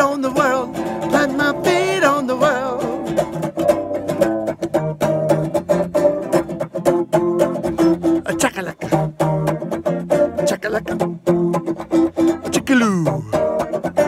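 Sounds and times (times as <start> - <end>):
plucked string instruments: 0.0 - 14.0.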